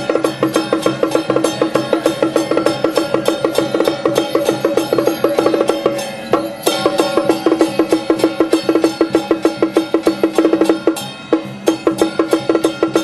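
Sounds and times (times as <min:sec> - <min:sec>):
pitched percussion struck fast: 0:00.0 - 0:13.0.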